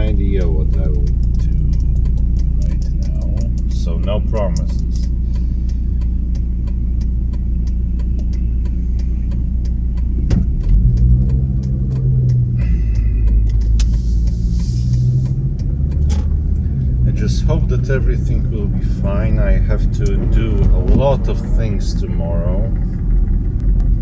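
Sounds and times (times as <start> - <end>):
faint regular ticking: 0.0 - 24.0
road and engine rumble: 0.0 - 24.0.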